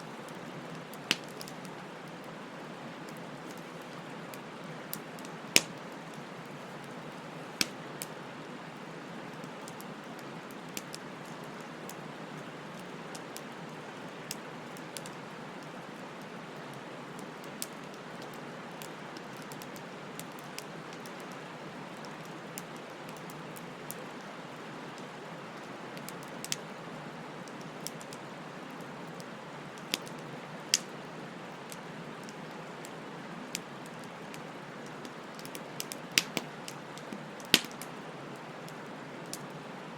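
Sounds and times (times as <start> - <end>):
bonfire crackling and popping: 0.0 - 39.7
hiss of burning wood: 0.0 - 39.9.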